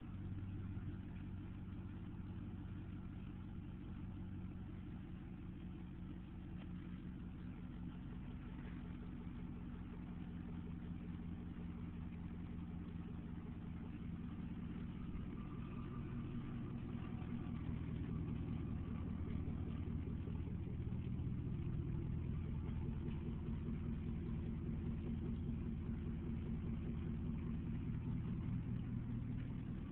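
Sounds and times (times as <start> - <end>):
pickup engine idling: 0.0 - 29.9.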